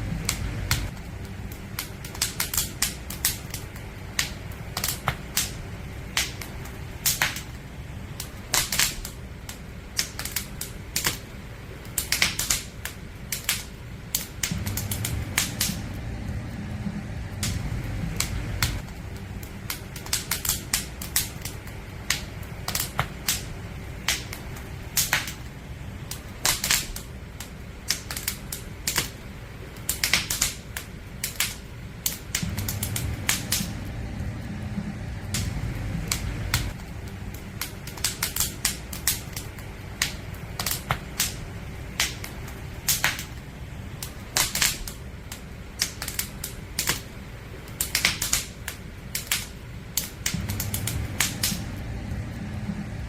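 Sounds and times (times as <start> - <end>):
low rumble of flames: 0.0 - 53.0
firewood popping and snapping: 0.1 - 53.0.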